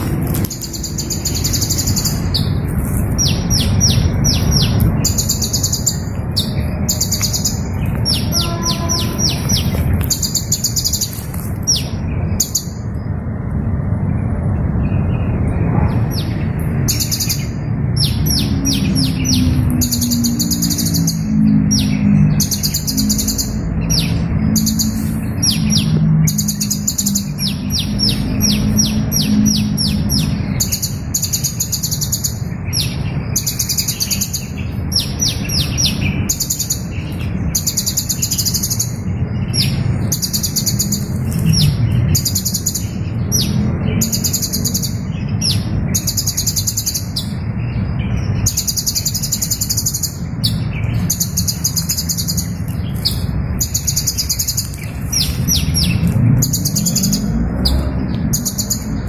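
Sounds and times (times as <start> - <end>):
small bird singing: 0.0 - 13.3, 14.0 - 59.0.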